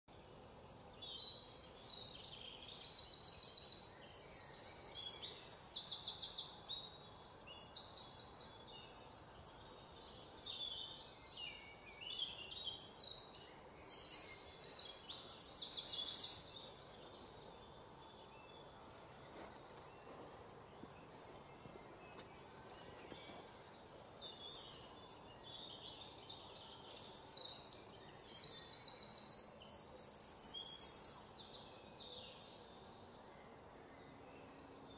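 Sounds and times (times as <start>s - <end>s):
songbird trilling and chirping: 0.4s - 34.9s.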